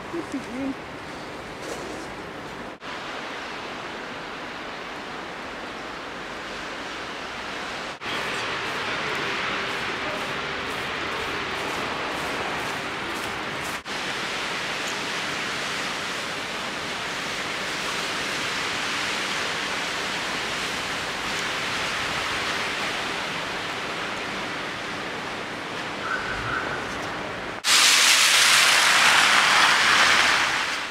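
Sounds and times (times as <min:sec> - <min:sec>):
street ambience hiss: 0:00.0 - 0:30.9.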